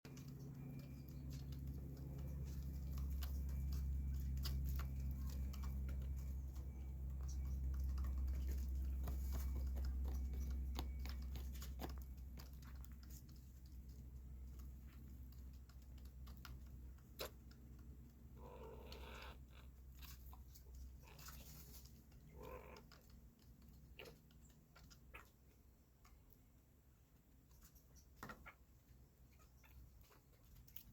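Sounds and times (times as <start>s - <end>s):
beaks tapping on seed: 0.1s - 26.4s.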